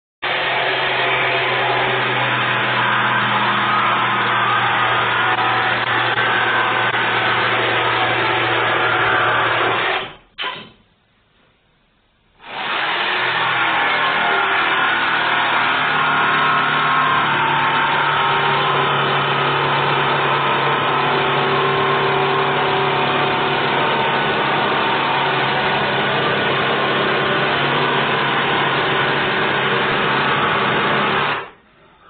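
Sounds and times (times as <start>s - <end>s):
jigsaw cutting wood: 0.2s - 10.2s, 12.4s - 31.6s.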